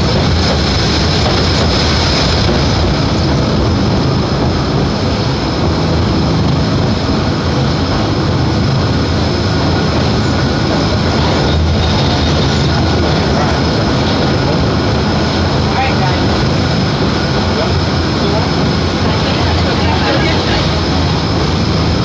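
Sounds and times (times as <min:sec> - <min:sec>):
trolley train wheels rumbling: 0:00.0 - 0:22.0.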